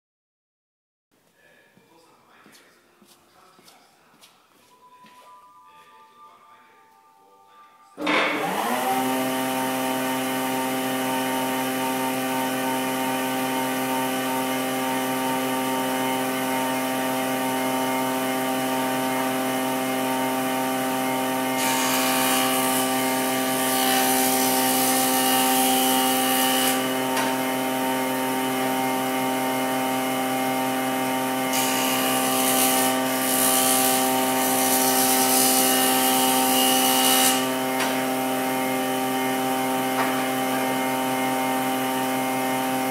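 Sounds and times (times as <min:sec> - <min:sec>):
woodworking machine motor hum: 0:08.0 - 0:42.9.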